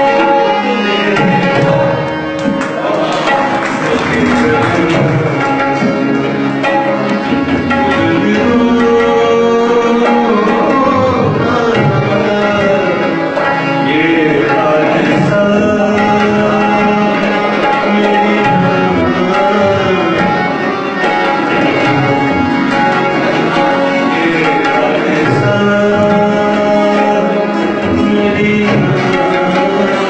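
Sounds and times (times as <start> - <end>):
melody of gliding notes: 0.0 - 30.0
tabla drumming: 0.0 - 30.0.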